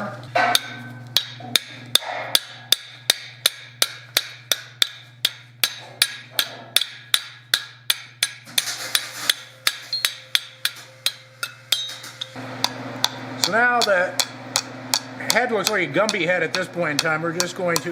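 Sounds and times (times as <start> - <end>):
hammer striking hot steel on anvil: 0.3 - 17.9.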